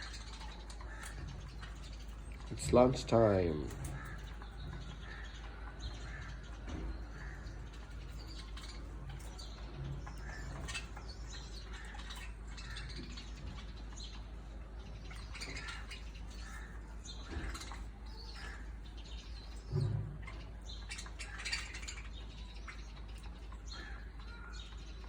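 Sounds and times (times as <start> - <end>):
budgerigars chirping: 0.0 - 25.0
steady low hum: 0.0 - 25.0.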